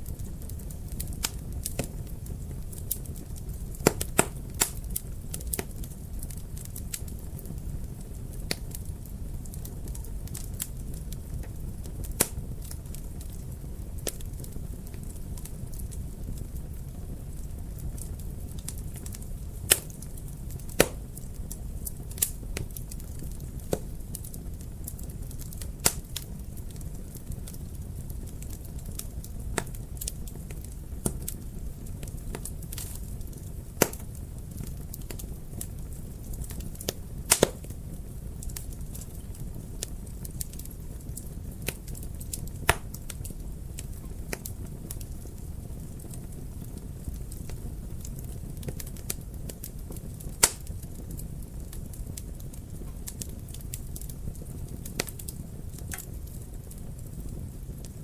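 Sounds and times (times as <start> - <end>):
fire crackling and popping: 0.0 - 58.0
low rumble of flames: 0.0 - 58.0.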